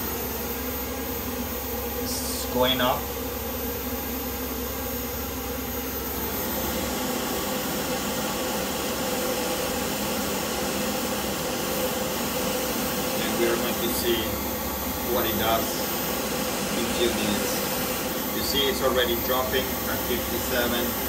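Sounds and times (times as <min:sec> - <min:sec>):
air conditioner fan running: 0:00.0 - 0:21.0.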